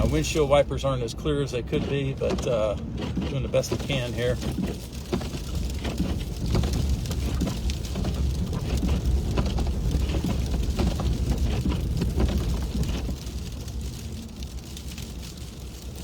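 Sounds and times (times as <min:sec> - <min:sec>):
slush spattering on windshield: 0:00.0 - 0:16.0
tyre and road rumble: 0:00.0 - 0:16.0.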